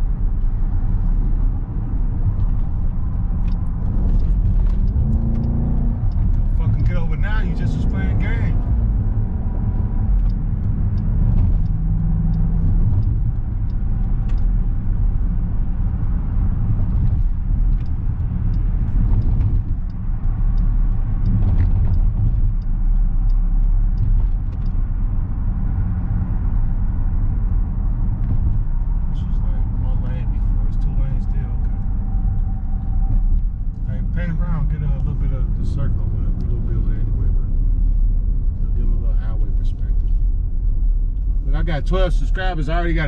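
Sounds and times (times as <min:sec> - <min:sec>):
car engine rumble from inside cabin: 0:00.0 - 0:43.0.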